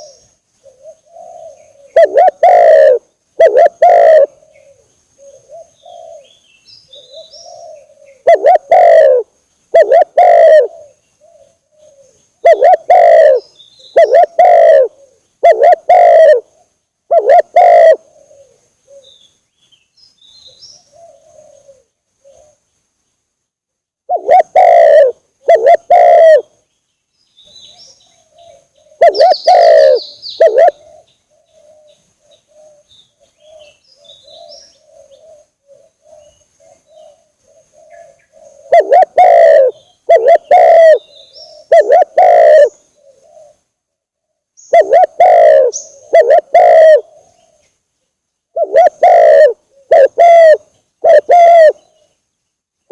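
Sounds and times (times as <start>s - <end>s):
small birds chirping: 0.0s - 2.7s, 3.4s - 23.5s, 24.1s - 52.9s
faint cooing: 0.0s - 6.3s, 6.9s - 19.2s, 20.8s - 22.6s, 24.1s - 26.5s, 27.7s - 43.7s, 44.8s - 47.7s, 48.6s - 52.1s
dove cooing: 0.0s - 19.2s, 20.5s - 22.6s, 24.1s - 26.6s, 27.6s - 47.7s, 48.5s - 52.1s.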